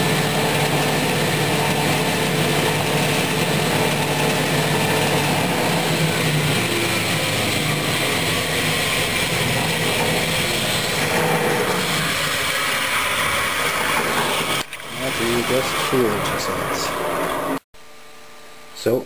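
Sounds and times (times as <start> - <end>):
table saw running: 0.0 - 17.7.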